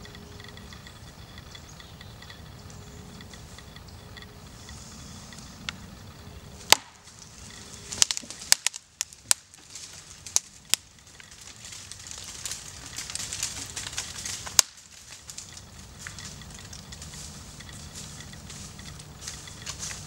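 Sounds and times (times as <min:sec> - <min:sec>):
wood fibres cracking: 0:00.0 - 0:20.0.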